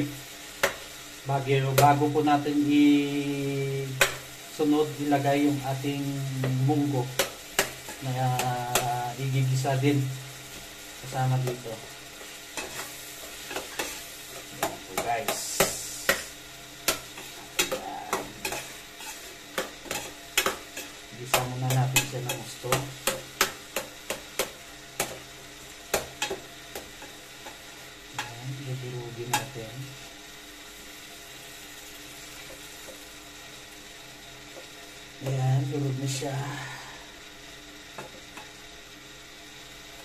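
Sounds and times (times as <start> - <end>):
meat sizzling: 0.0 - 40.0.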